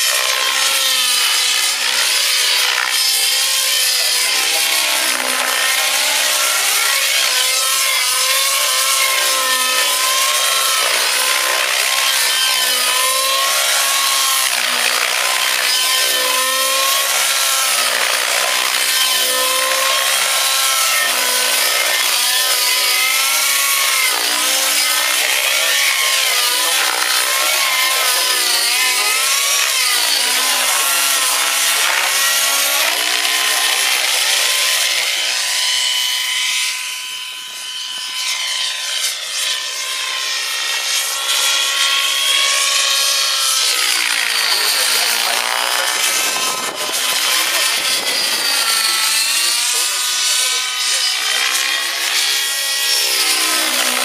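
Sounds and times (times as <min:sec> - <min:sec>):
model helicopter whine: 0:00.0 - 0:54.0.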